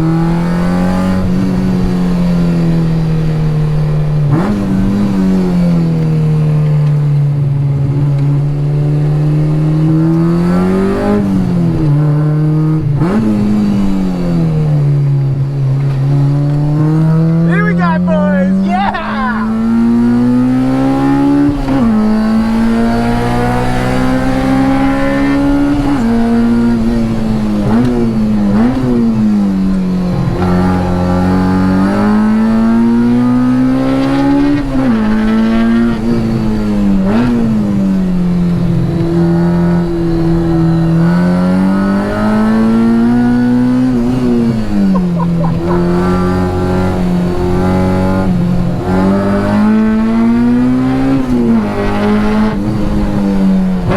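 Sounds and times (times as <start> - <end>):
car engine revving hard: 0.0 - 7.1, 7.8 - 53.9.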